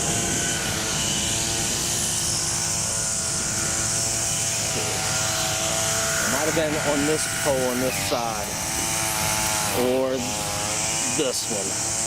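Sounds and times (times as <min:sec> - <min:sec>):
steady motor drone: 0:00.0 - 0:12.0.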